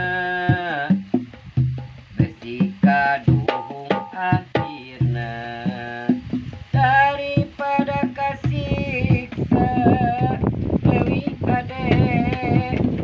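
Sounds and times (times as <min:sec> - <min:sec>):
man singing: 0:00.0 - 0:01.3, 0:02.1 - 0:13.0
hand drumming: 0:00.0 - 0:13.0.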